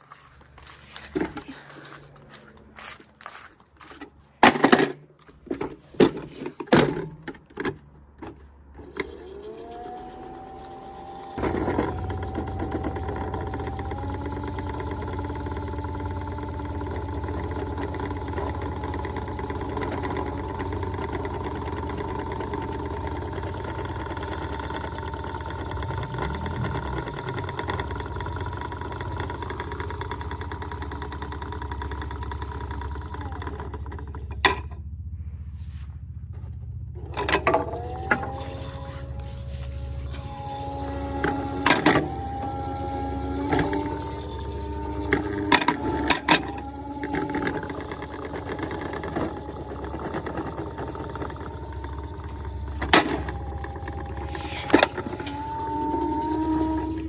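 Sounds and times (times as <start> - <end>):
toy washing machine motor whine: 5.5 - 34.8, 37.0 - 57.0.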